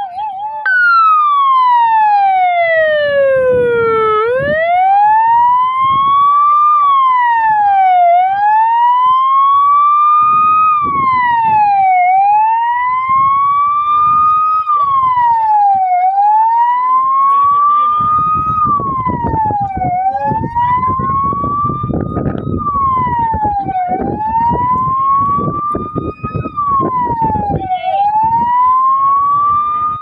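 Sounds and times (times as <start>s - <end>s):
siren wailing: 0.0s - 30.0s.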